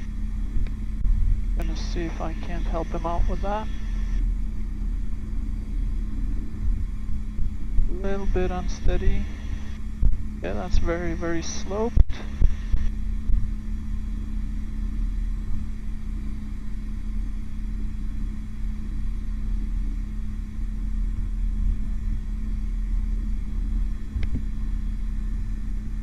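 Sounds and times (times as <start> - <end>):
constant hum: 0.0 - 26.0
helicopter rotor and turbine rumble: 0.0 - 26.0.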